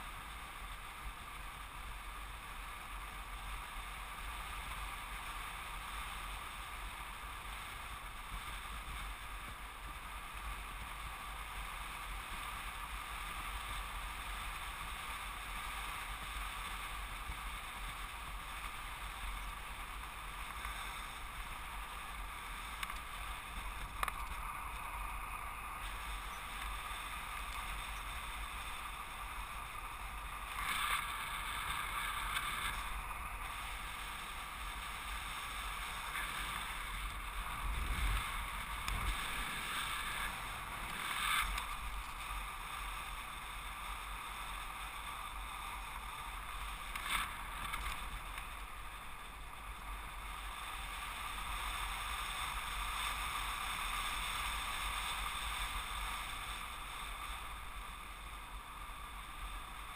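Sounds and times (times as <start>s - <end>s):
wind rushing over camera: 0.0s - 59.9s.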